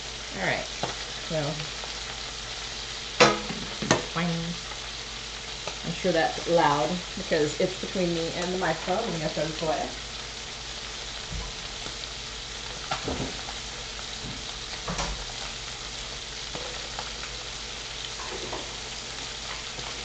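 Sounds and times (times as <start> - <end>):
chicken sizzling in skillet: 0.0 - 20.0.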